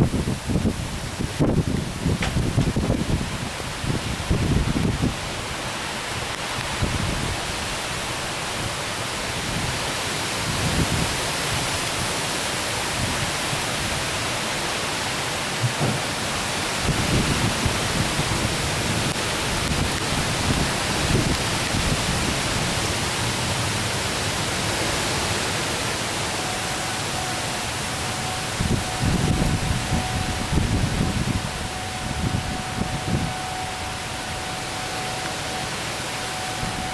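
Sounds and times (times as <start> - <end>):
heavy rain pouring: 0.0 - 36.9
wind gusts buffeting microphone: 0.0 - 36.9.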